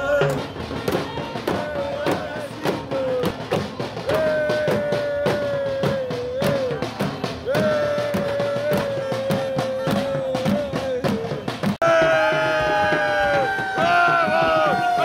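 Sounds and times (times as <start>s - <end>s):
snare and bass drums pounding: 0.0s - 15.0s.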